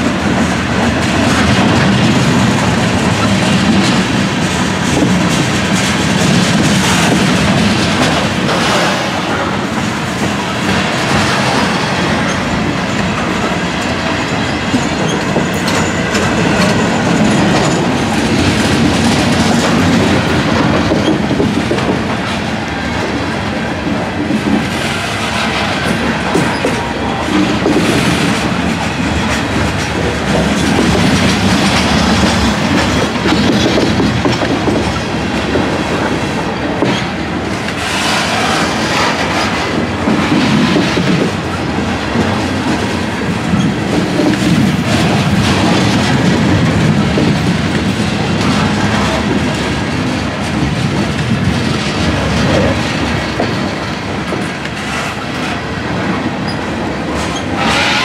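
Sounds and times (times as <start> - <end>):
clickety-clack over rail joints: 0.0 - 58.0
train wheels rumbling on rail: 0.0 - 58.0.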